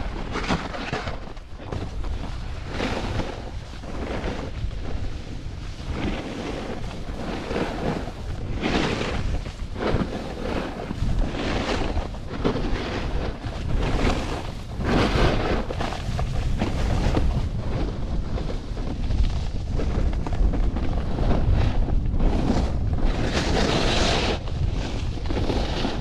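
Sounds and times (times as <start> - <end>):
snowboard edge scraping snow: 0.0 - 26.0
wind buffeting microphone: 0.0 - 26.0.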